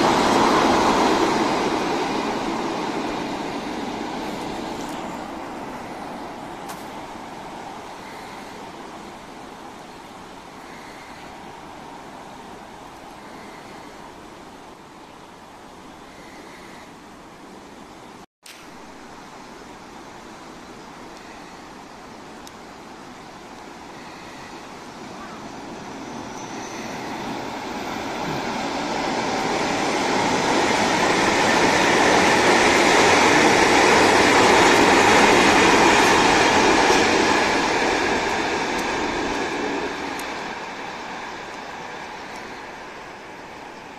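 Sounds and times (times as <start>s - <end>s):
train rumbling over bridge: 0.0s - 18.2s, 18.8s - 43.9s.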